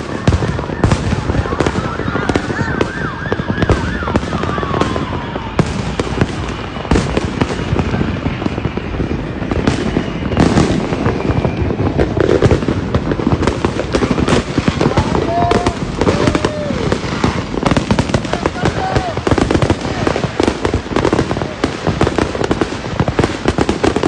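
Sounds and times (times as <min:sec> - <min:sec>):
firecrackers crackling: 0:00.0 - 0:24.0
firework booms: 0:00.0 - 0:24.0
whistling firework falling in pitch: 0:00.0 - 0:24.0.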